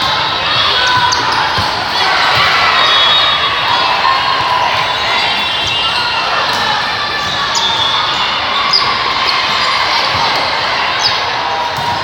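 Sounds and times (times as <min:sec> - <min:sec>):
shoes squeaking on court floor: 0:00.0 - 0:03.3, 0:04.8 - 0:12.0.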